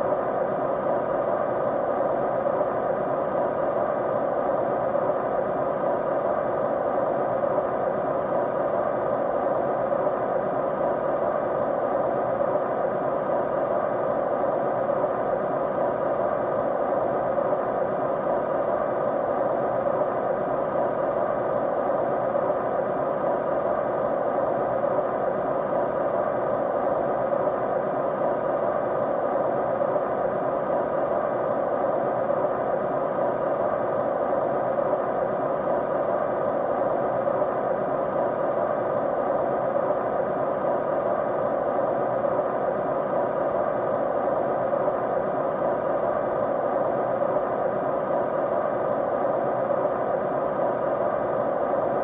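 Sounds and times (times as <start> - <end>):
faint steady tones: 0.0 - 52.0
steady white noise: 0.0 - 52.0.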